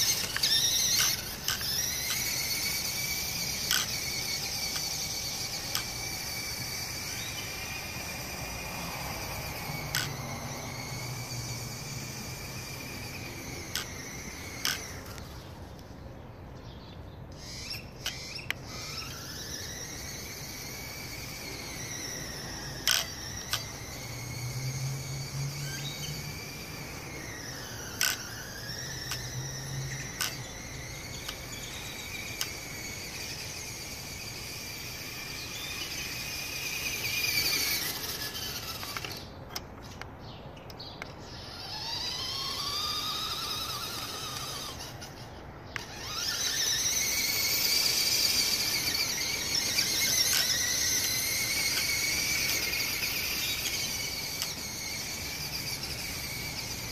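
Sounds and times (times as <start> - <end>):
electric motor whining: 0.0 - 16.1, 17.3 - 40.0, 40.8 - 56.9.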